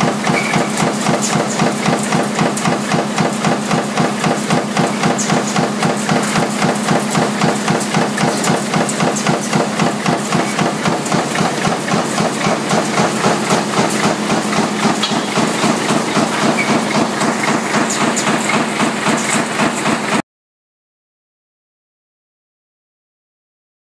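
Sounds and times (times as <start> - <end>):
punch press stamping strokes: 0.0 - 20.2
steady machine hum: 0.0 - 20.2.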